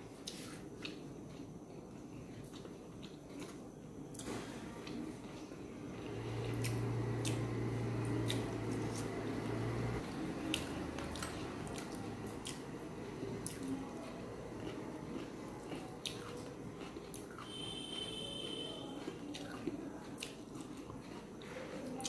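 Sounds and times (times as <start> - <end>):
low steady hum: 0.0 - 22.0
chewing and wet squishing: 0.2 - 22.0.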